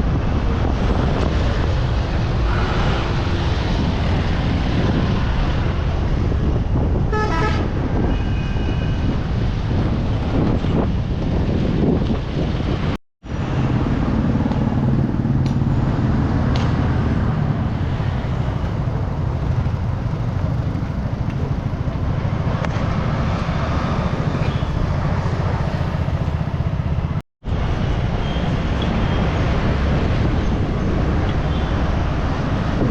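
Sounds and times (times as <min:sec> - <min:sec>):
road vehicle rumble: 0:00.0 - 0:32.9.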